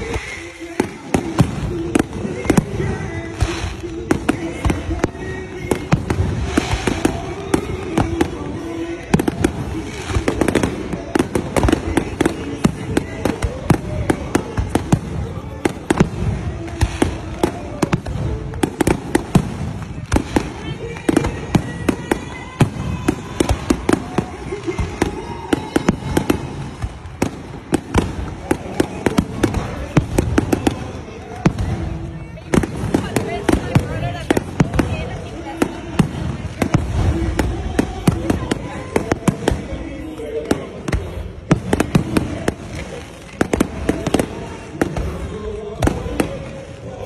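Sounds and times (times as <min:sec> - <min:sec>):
fireworks bangs and crackles: 0:00.0 - 0:47.0.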